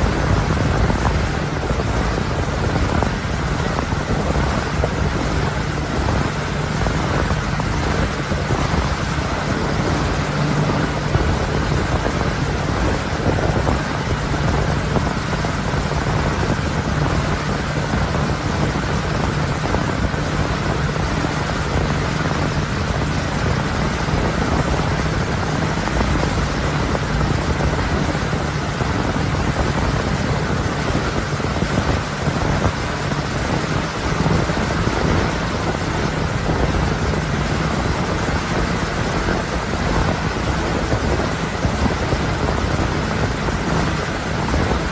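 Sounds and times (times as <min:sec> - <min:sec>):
motorboat engine drone: 0:00.0 - 0:44.9
rushing boat wake: 0:00.0 - 0:44.9
wind buffeting microphone: 0:00.0 - 0:44.9.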